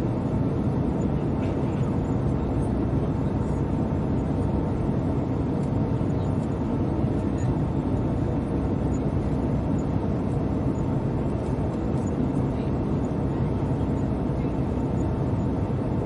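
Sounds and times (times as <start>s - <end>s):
airliner cabin noise: 0.0s - 16.0s
faint steady hum: 0.0s - 16.0s.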